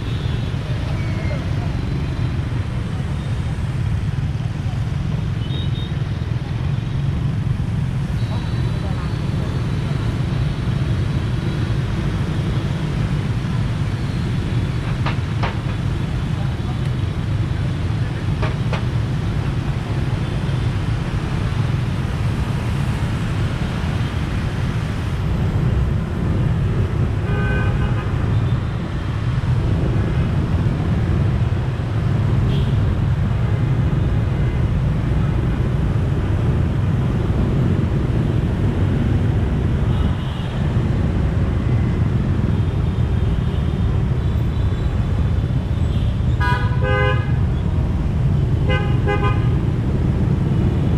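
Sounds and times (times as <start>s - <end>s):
motorbike engine and road noise: 0.0s - 50.9s.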